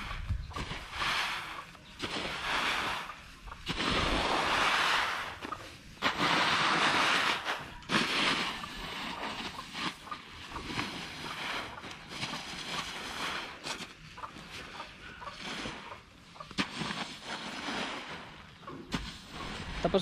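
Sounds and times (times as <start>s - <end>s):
rake scraping through rice grain: 0.0s - 20.0s.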